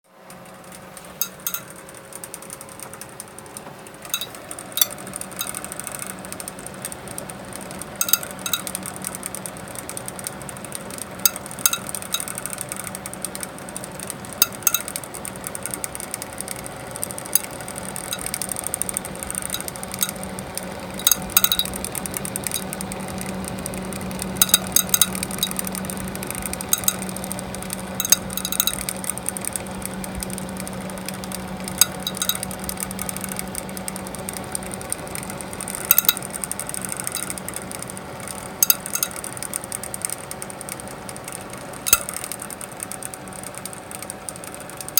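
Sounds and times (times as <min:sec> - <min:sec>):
case fan whirring: 0:00.1 - 0:44.9
fan clicking and ticking: 0:00.1 - 0:44.9.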